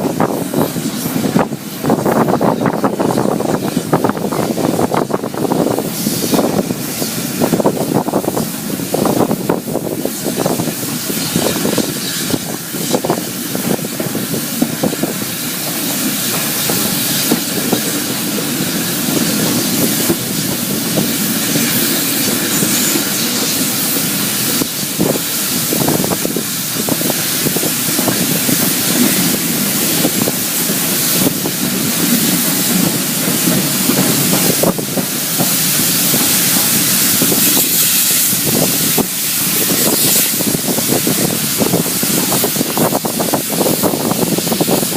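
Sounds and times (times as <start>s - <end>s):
steam train rushing hiss: 0.0s - 44.9s.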